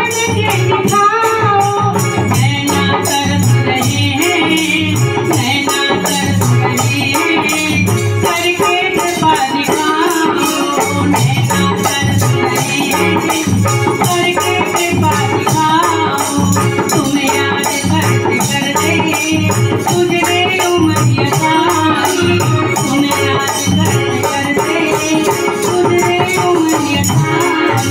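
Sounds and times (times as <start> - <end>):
devotional song melody: 0.0 - 27.9.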